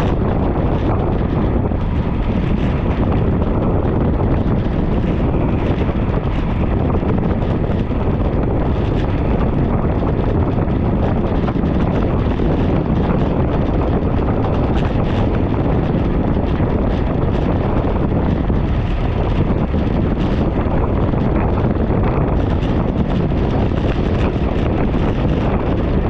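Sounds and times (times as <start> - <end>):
wind rushing on microphone: 0.0 - 26.0.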